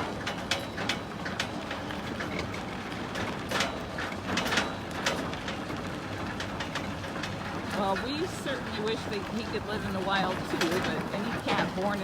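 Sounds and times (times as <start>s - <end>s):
low rumble of moving vehicle: 0.0s - 12.0s.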